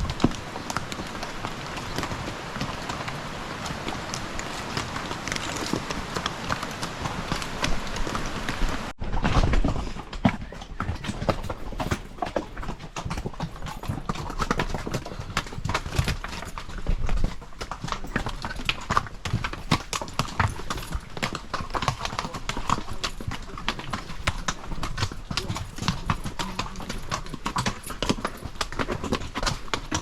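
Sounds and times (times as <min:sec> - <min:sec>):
horse hooves clip-clopping: 0:00.0 - 0:30.0.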